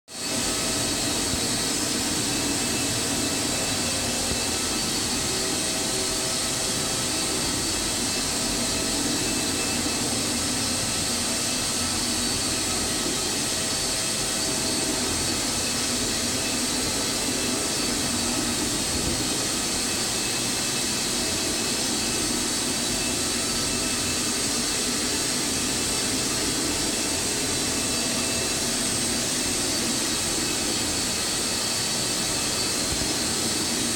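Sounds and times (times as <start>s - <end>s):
carpet cleaner suction rushing: 0.1s - 33.9s
high-pitched whine: 0.1s - 33.9s.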